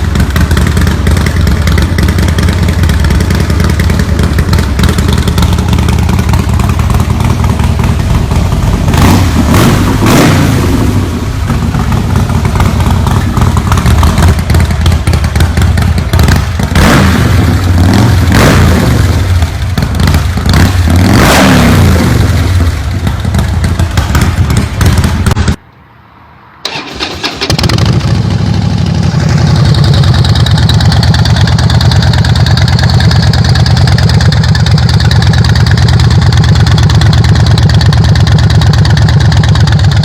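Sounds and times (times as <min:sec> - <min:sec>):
motorcycle engine idling: 0:00.0 - 0:21.4, 0:22.0 - 0:25.6, 0:26.6 - 0:40.0.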